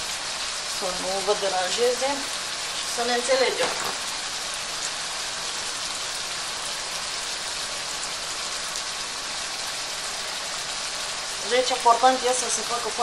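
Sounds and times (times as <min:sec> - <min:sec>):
bacon sizzling in oil: 0:00.0 - 0:13.0
range hood fan running: 0:00.0 - 0:13.0.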